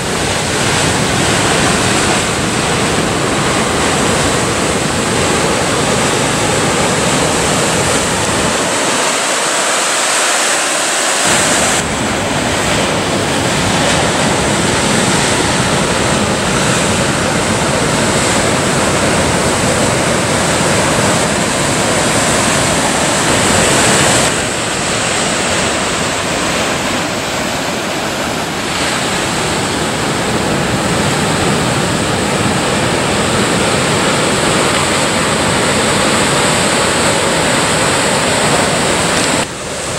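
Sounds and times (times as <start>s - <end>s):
waves breaking against cliffs: 0.0s - 39.9s
wind on microphone: 0.0s - 39.9s.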